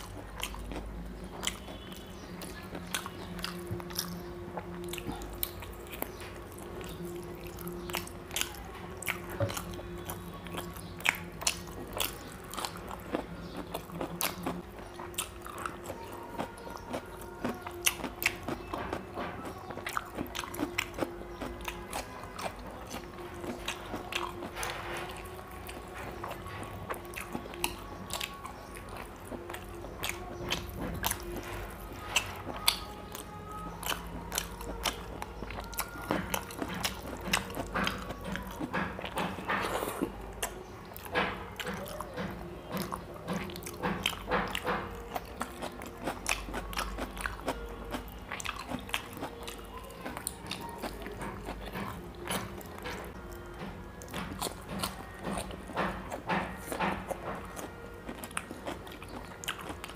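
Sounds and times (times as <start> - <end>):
wet chewing and lip smacking: 0.0 - 59.9.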